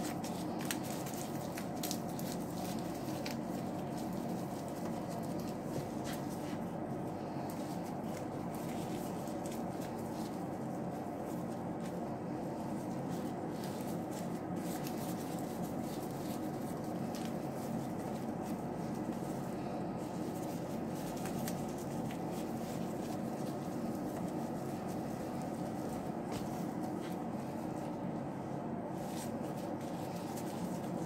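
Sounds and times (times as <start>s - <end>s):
faint clicks and rustles: 0.0s - 31.0s
kitchen background hum: 0.0s - 31.0s.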